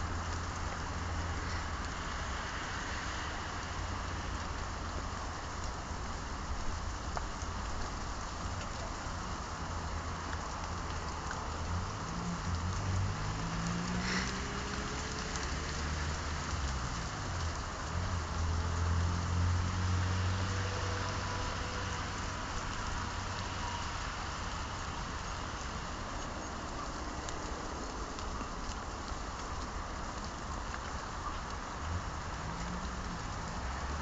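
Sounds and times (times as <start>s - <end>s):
passing motor vehicle rumble: 0.0s - 34.0s
steady outdoor hiss: 0.0s - 34.0s.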